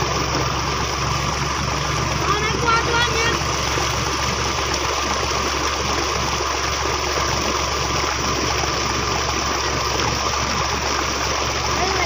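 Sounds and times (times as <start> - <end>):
water gushing into pond: 0.0 - 12.0.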